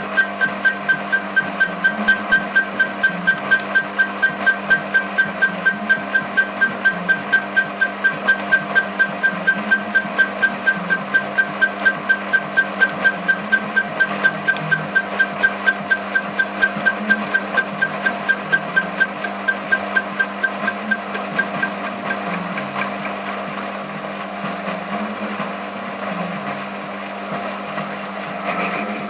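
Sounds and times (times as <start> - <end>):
lathe cutter ticking: 0.0 - 24.2
lathe humming: 0.0 - 24.3.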